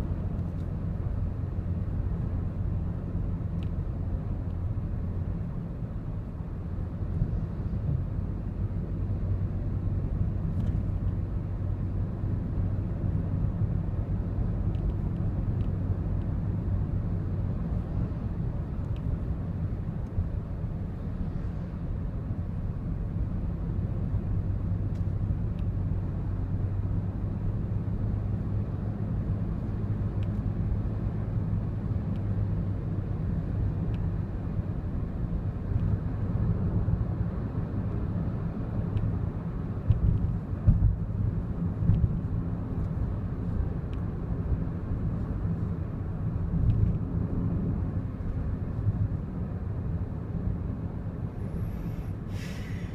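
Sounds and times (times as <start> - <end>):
car cabin drone while driving: 0.0 - 52.9.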